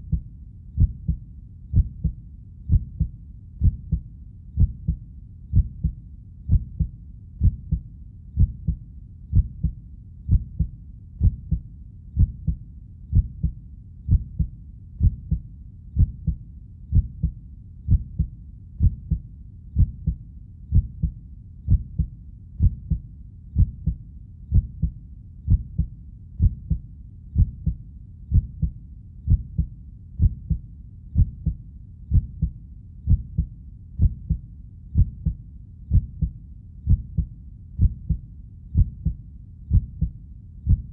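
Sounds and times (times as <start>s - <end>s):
human heartbeat: 0.0s - 40.9s.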